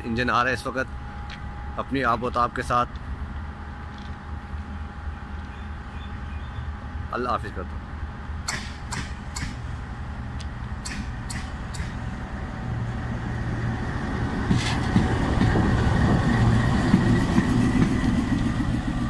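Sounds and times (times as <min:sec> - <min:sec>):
locomotive engine rumble: 0:00.0 - 0:19.0
steady high whine: 0:00.0 - 0:19.0.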